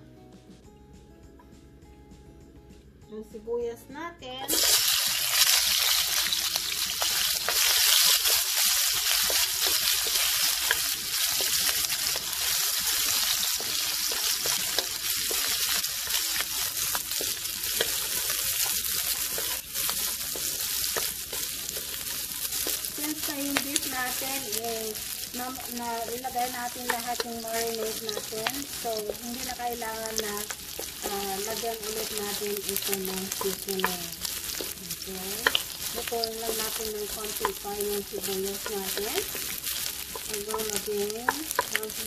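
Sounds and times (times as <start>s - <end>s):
onions sizzling in oil: 4.5s - 42.0s
spatula scraping wok: 4.5s - 42.0s.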